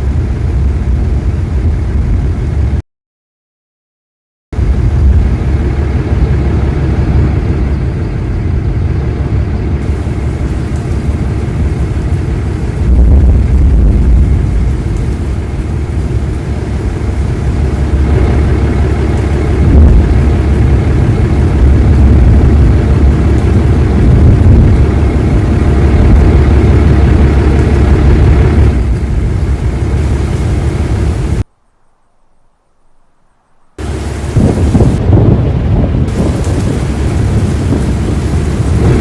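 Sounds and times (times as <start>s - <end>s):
vehicle engine and road rumble: 0.0s - 2.8s, 4.6s - 39.0s.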